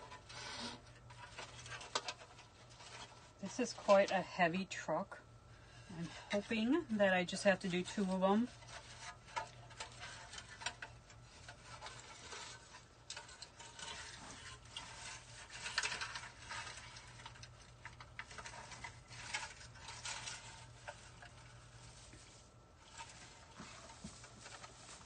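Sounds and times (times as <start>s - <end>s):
faint steady hum: 0.0s - 25.0s
rustling of greenery and wire: 0.0s - 25.0s.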